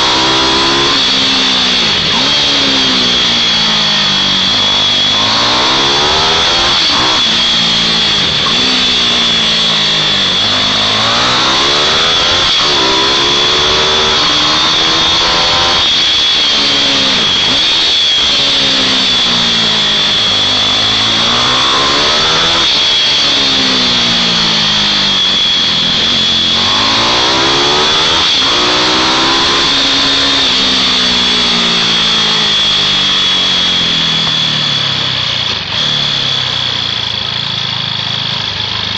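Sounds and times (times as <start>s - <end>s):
mini bike engines racing: 0.0s - 38.9s
steady high whine: 0.0s - 38.9s.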